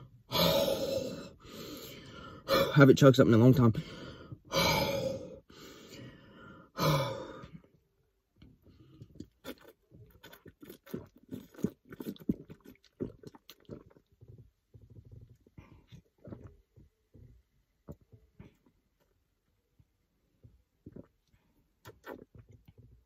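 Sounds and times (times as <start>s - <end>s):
person gulping and swallowing: 0.0s - 2.7s, 3.9s - 23.0s.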